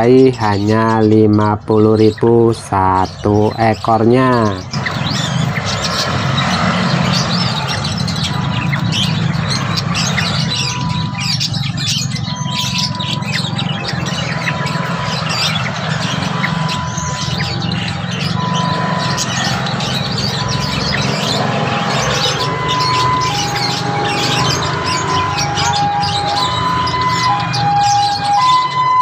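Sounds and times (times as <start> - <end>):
songbirds chirping and twittering: 0.0 - 29.0.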